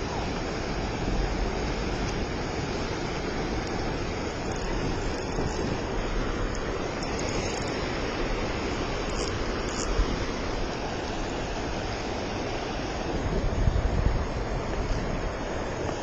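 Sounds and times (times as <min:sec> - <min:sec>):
river rushing through rapids: 0:00.0 - 0:16.0.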